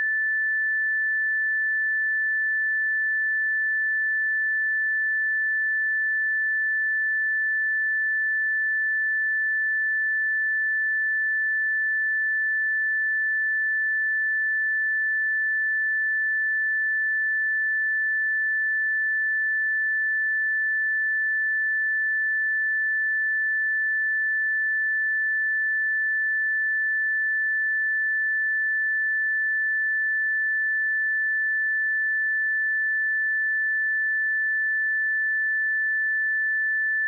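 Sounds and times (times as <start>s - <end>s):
high-pitched sine test tone: 0.0s - 37.0s.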